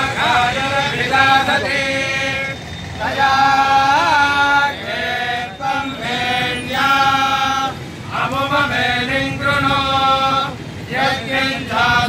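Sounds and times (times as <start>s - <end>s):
men chanting mantras: 0.0s - 12.0s.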